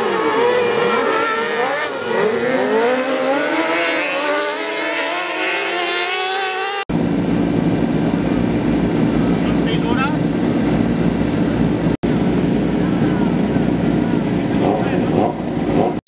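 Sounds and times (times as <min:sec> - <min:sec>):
race car engines revving: 0:00.0 - 0:16.0
steady engine noise: 0:00.0 - 0:16.0.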